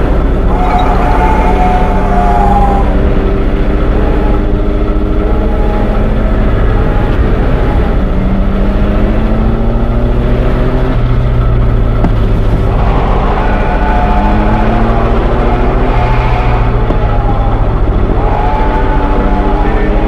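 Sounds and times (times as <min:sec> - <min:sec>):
steady tones rising in pitch: 0:00.0 - 0:20.0
train rumble: 0:00.0 - 0:20.0.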